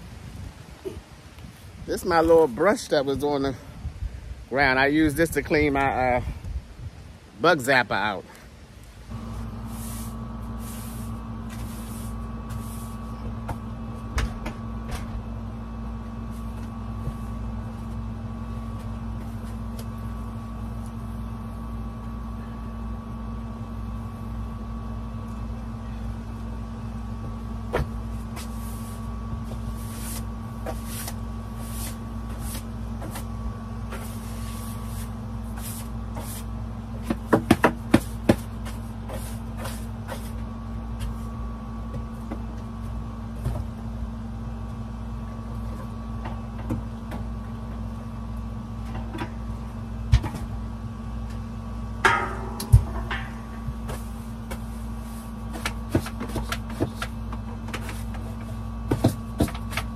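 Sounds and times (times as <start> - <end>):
air conditioner humming: 0.0 - 59.9.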